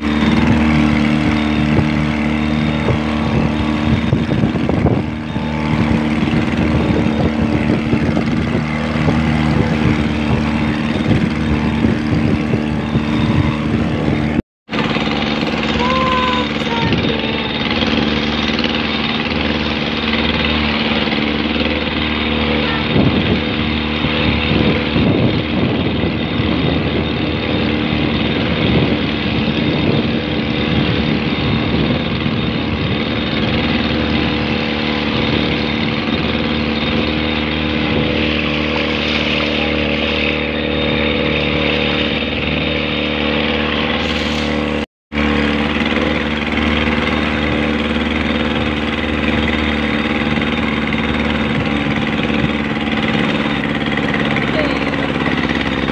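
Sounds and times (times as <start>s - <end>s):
motorboat engine running: 0.0s - 55.9s
wind: 0.0s - 55.9s.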